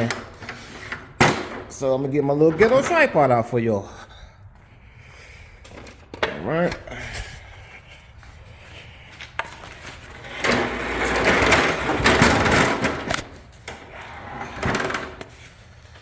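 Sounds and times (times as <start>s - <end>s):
rubbing and scraping handling noise: 0.0s - 3.5s, 5.6s - 16.0s.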